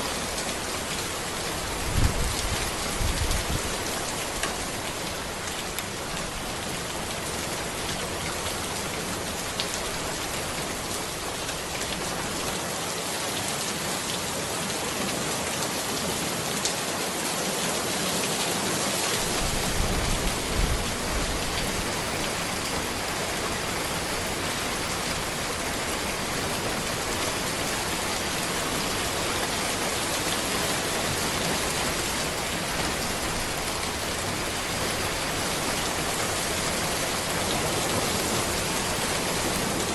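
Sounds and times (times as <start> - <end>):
rain on road and trees: 0.0 - 39.9.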